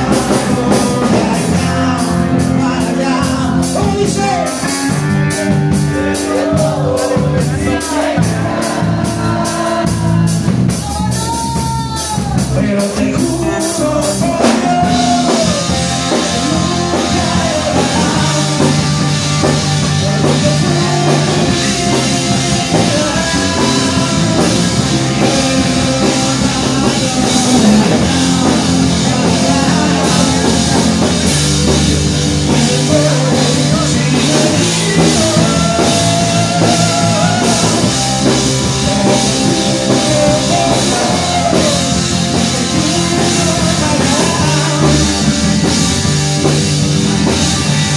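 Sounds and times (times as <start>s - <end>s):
male singer: 0.0s - 46.6s
drums: 0.0s - 47.9s
electric bass: 0.0s - 47.9s
electric guitar: 0.0s - 47.9s.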